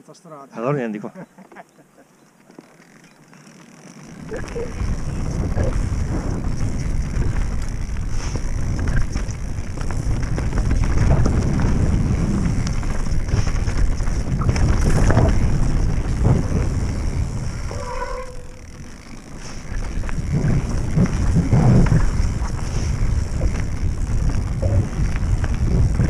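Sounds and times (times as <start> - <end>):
bike clicks and rattles: 1.4 - 26.0
wind buffeting microphone: 4.2 - 26.0.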